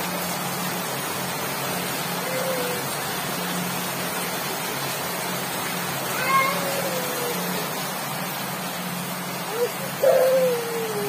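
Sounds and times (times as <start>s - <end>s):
rain on roofs: 0.0s - 11.0s.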